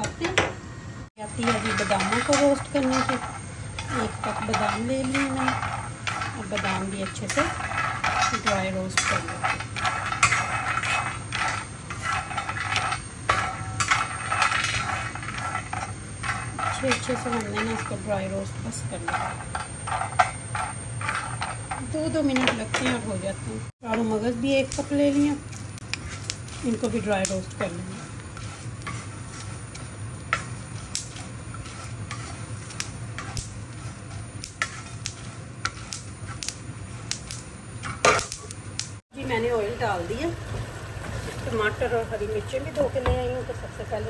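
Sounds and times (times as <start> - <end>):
steady low hum: 0.0 - 44.0
almonds rattling in a dry pan: 1.2 - 38.4
spatula scraping a pan: 1.2 - 38.5.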